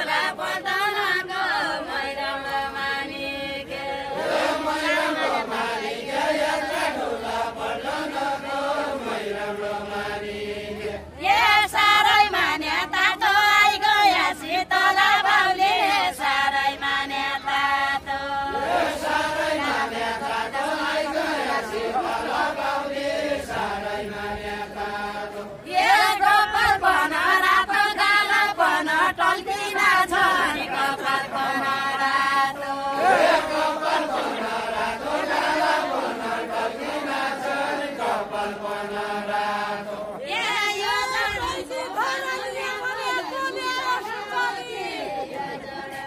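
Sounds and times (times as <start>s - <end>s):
group singing unaccompanied: 0.0s - 46.0s.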